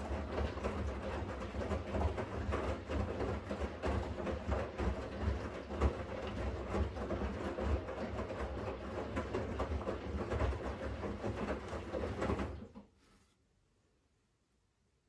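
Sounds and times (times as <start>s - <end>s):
washing machine motor rumble: 0.0s - 12.8s.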